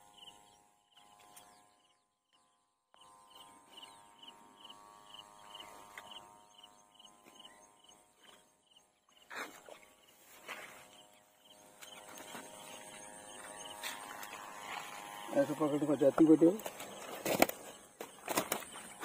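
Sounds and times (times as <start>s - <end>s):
faint steady drone: 0.0s - 19.0s.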